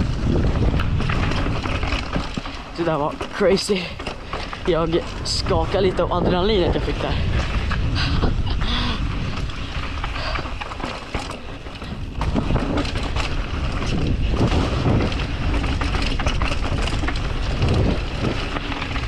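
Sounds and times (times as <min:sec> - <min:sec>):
wind buffeting microphone: 0:00.0 - 0:19.0
clicks and rattles: 0:00.3 - 0:08.5, 0:09.2 - 0:19.0.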